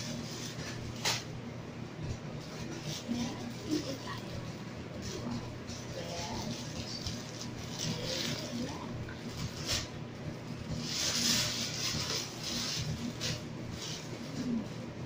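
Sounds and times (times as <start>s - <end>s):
plastic packaging crinkling: 0.0s - 1.3s, 2.4s - 14.7s
steady low hum: 0.0s - 15.0s.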